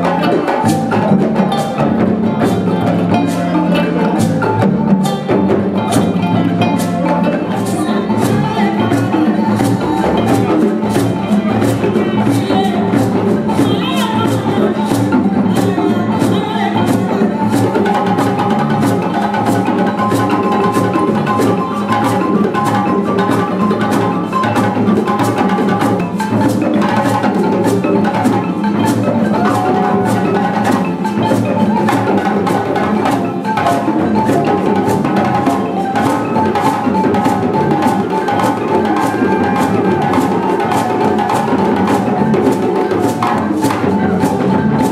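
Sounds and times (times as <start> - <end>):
bass guitar: 0.0 - 44.9
hand drums: 0.0 - 44.9
wooden xylophones playing: 0.0 - 44.9.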